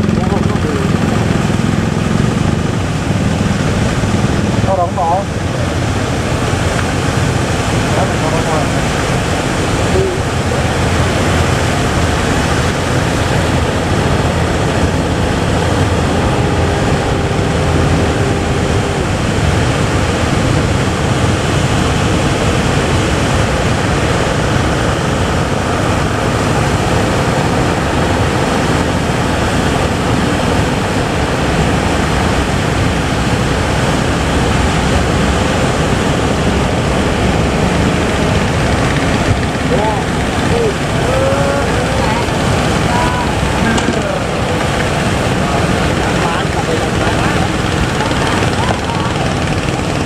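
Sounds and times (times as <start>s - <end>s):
big waves breaking: 0.0s - 50.0s.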